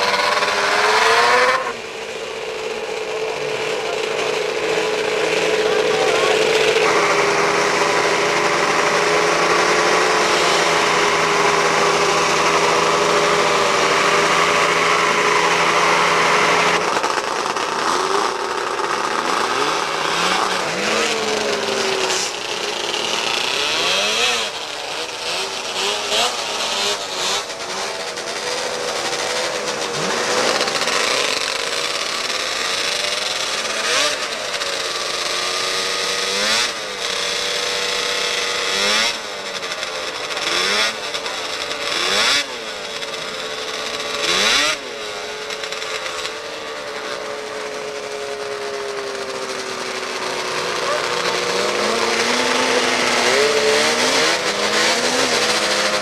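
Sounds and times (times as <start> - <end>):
snowmobile engines revving: 0.0 - 56.0.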